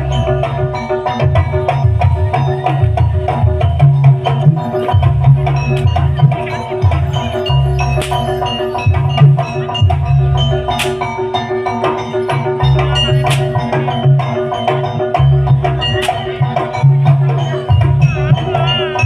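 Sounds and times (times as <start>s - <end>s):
drums: 0.0s - 19.0s
gong and metallophone percussion: 0.0s - 19.0s.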